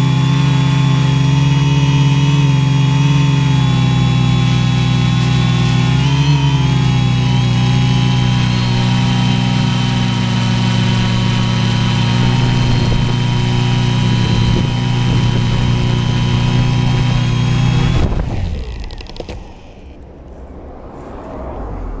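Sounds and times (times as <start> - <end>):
drone motors humming and whining: 0.0 - 22.0.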